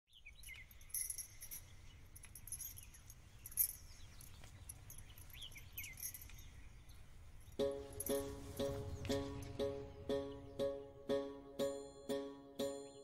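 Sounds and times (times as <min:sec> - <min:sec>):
faint birdsong: 0:00.1 - 0:13.0.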